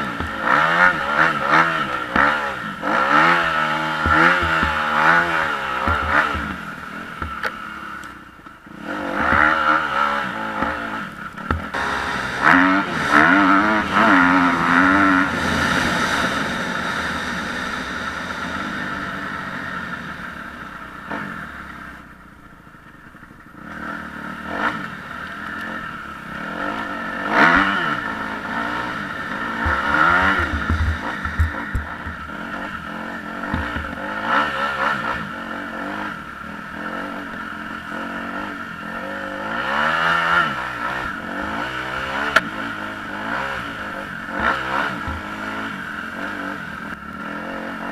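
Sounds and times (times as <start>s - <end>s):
dirt bike engine revving: 0.0s - 22.1s, 23.5s - 47.9s.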